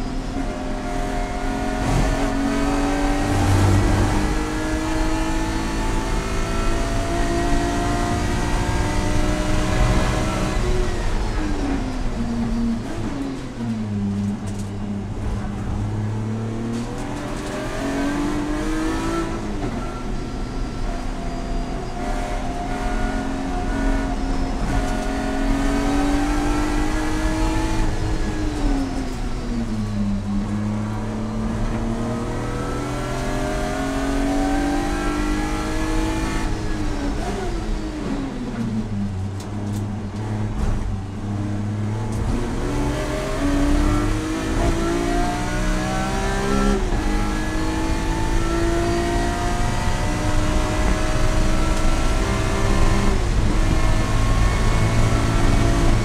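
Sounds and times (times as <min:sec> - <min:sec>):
race car engine revving: 0:00.0 - 0:56.0
road and tyre noise: 0:00.0 - 0:56.0.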